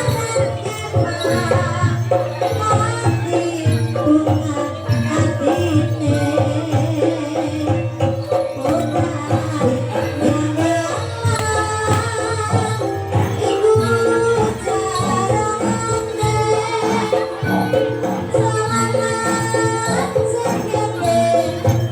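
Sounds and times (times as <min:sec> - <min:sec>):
hand drumming and percussion: 0:00.0 - 0:21.9
pitched melodic line: 0:00.0 - 0:21.9.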